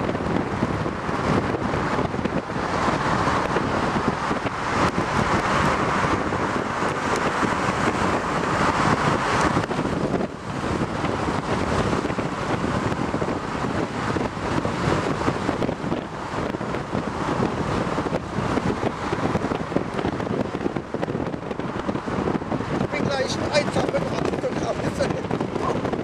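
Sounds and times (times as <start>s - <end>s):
car engine and tyre noise: 0.0s - 26.0s
wind buffeting microphone: 0.0s - 26.0s.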